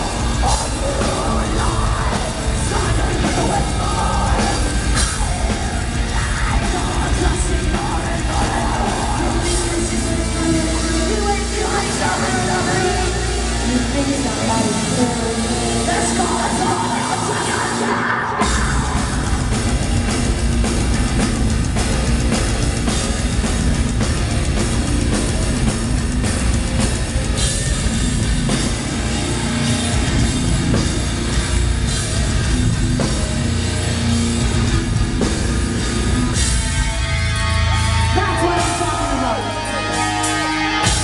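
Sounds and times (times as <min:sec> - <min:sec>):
live heavy metal band: 0:00.0 - 0:41.0.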